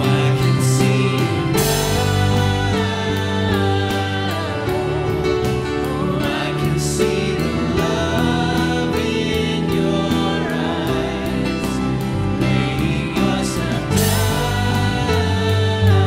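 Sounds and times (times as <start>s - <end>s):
drums with steady beat: 0.0s - 16.0s
guitars: 0.0s - 16.0s
person singing: 0.0s - 16.0s
piano: 0.0s - 16.0s.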